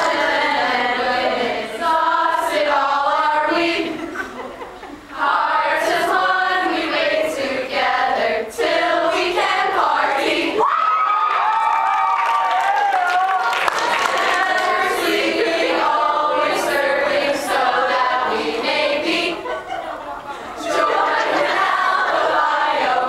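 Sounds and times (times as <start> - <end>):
group singing together: 0.0 - 10.6, 13.5 - 23.0.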